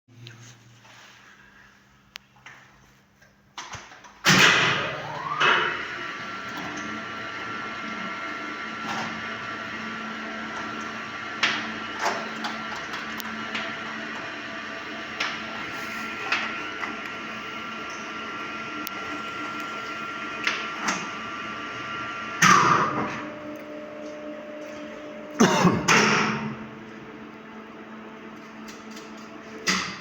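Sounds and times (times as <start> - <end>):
machine whine and hum: 3.6 - 30.0.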